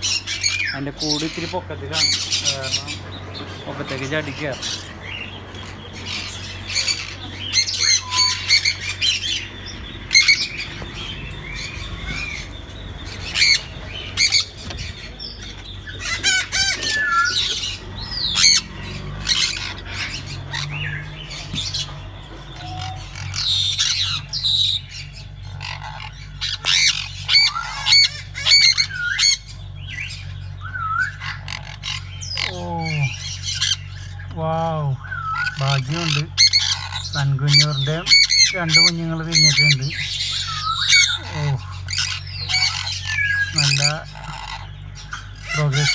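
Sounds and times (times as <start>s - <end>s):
low steady hum: 0.0s - 45.9s
parrots squawking: 0.0s - 45.9s.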